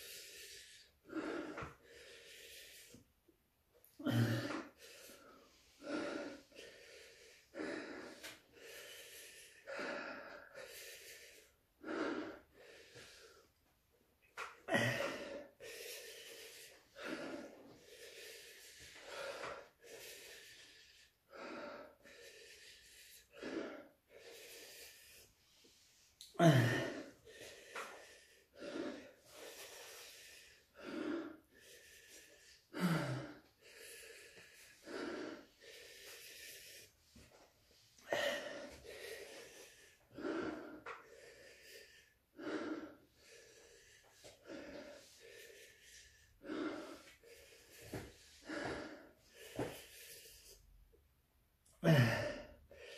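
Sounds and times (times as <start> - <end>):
man breathing hard and gasping: 0.0 - 3.2, 3.8 - 13.6, 14.3 - 50.7, 51.6 - 52.9.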